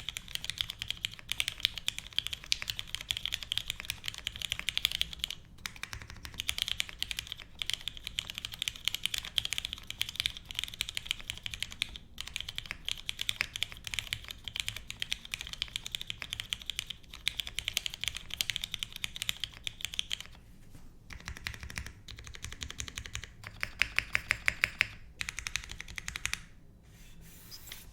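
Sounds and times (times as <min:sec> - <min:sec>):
mechanical keyboard typing: 0:00.0 - 0:20.4, 0:21.1 - 0:26.5.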